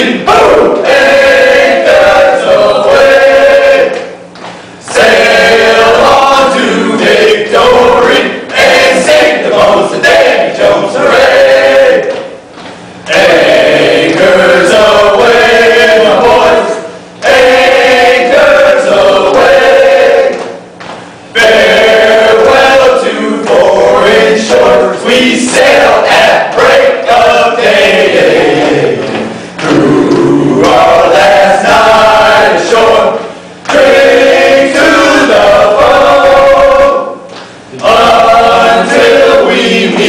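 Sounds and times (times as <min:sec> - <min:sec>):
choir singing: 0:00.0 - 0:04.1, 0:04.8 - 0:12.3, 0:13.1 - 0:20.6, 0:21.3 - 0:40.0.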